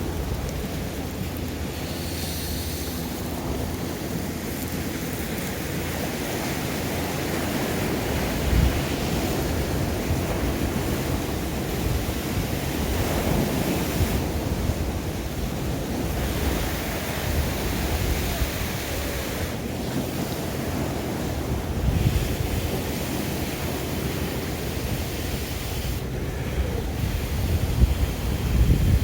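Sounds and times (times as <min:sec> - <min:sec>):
waves washing on shore: 0:00.0 - 0:29.0
wind buffeting microphone: 0:00.0 - 0:29.0.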